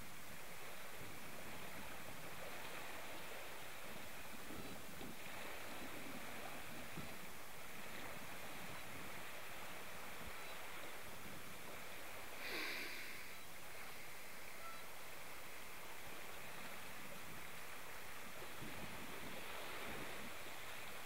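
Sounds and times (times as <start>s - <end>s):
sea water washing ashore: 0.0s - 21.0s.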